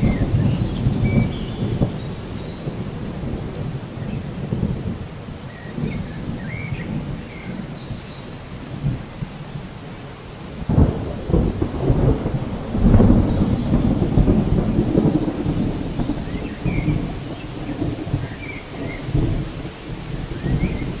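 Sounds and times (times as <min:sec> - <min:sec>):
thunder rumbling: 0:00.0 - 0:09.8, 0:10.5 - 0:21.0
heavy rain: 0:00.0 - 0:21.0.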